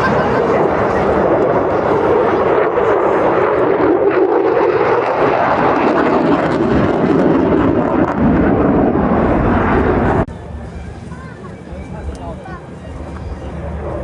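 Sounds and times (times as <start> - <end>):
aircraft engine roar: 0.0 - 14.0.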